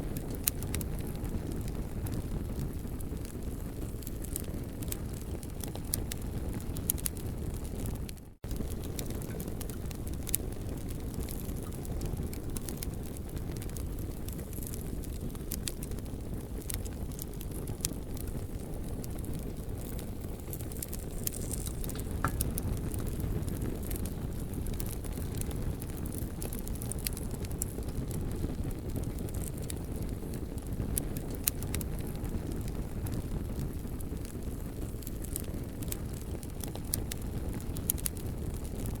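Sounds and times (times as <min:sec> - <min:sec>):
campfire crackling and popping: 0:00.0 - 0:39.0.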